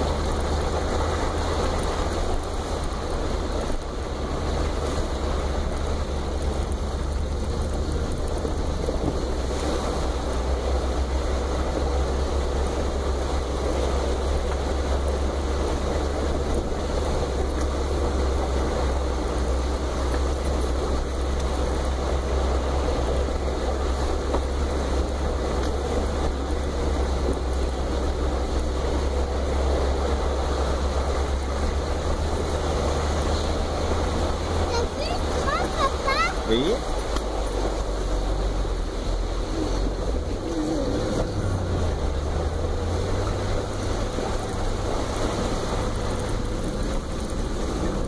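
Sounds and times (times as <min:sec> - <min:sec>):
car engine rumbling at low revs: 0:00.0 - 0:48.0.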